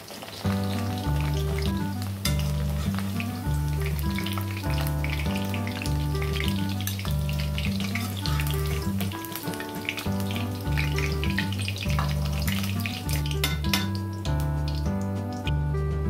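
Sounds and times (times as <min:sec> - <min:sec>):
food deep-frying in oil: 0:00.0 - 0:15.7
background music with bass line: 0:00.5 - 0:16.0.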